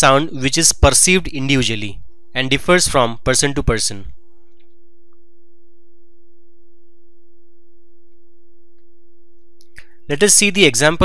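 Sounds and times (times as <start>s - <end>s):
steady pure tone: 0.0s - 11.0s.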